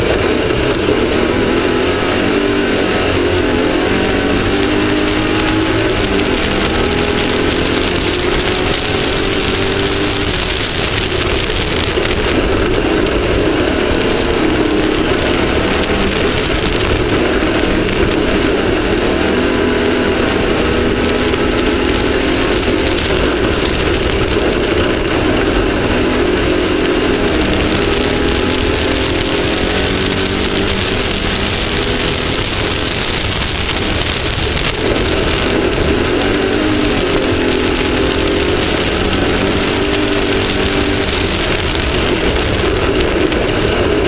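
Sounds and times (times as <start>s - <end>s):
race vehicle engine running hard: 0.0s - 44.0s
rushing wind and terrain noise: 0.0s - 44.0s.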